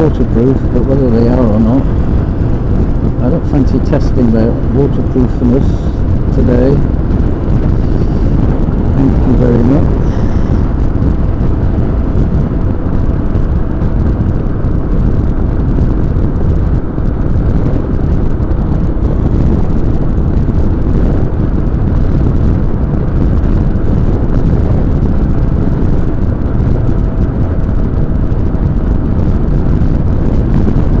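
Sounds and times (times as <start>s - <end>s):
motorcycle engine roar: 0.0s - 31.0s
wind buffeting microphone: 0.0s - 31.0s.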